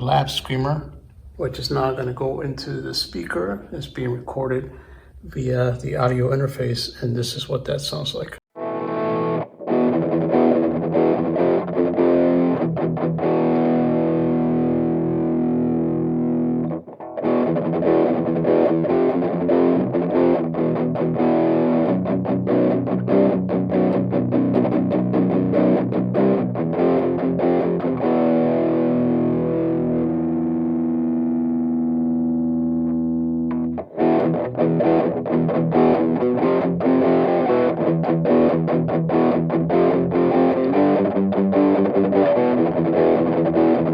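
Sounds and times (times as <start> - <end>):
distorted electric guitar chords: 8.5 - 43.9.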